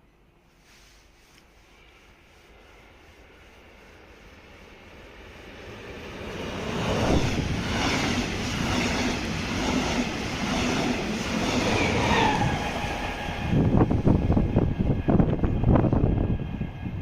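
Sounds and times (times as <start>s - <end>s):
electric locomotive passing: 1.6s - 17.0s.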